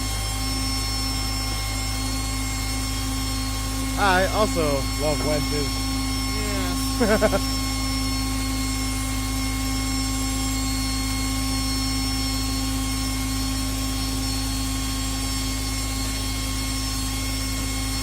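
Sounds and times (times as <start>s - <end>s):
electric winch motor whining: 0.0s - 18.0s.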